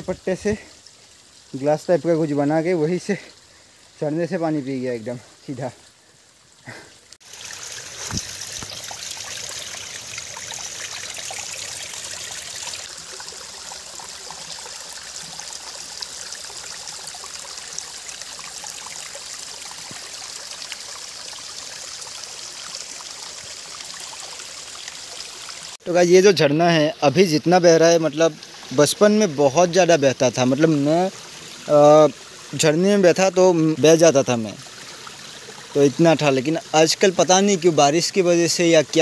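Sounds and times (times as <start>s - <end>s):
stream trickling over stones: 0.0s - 39.0s.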